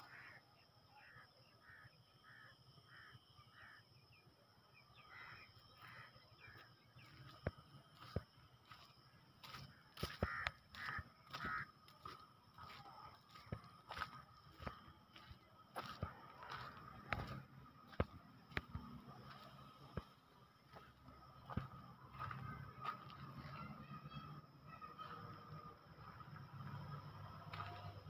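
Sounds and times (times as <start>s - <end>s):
distant bird calling: 4.8s - 28.0s.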